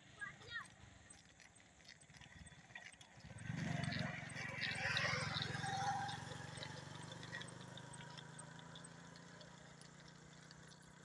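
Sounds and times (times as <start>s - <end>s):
motorcycle engine passing: 1.8s - 11.0s.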